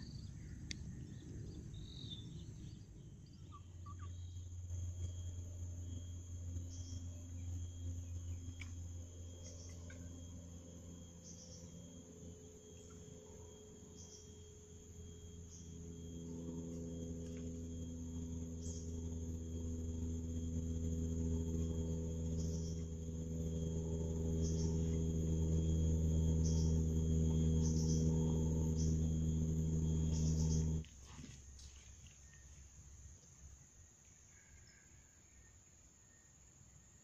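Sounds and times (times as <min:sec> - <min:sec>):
boat engine drone: 0:00.0 - 0:31.4
high insect whine: 0:00.0 - 0:37.0.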